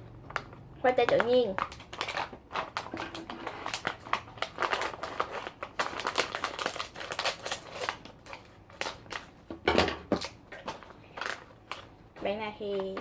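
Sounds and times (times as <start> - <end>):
plastic snack bag crinkling: 0.1 - 9.5, 10.1 - 13.0.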